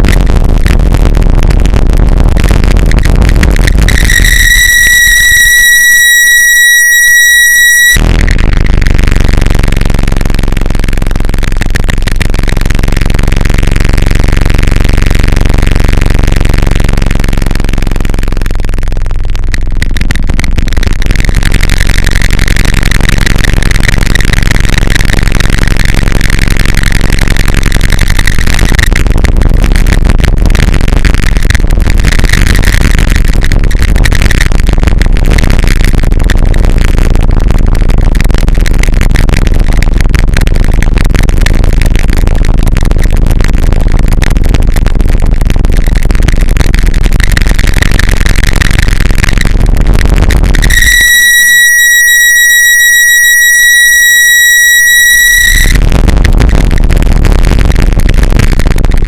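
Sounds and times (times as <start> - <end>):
harsh distorted noise music: 0.0 - 59.0
low hum: 0.0 - 59.0.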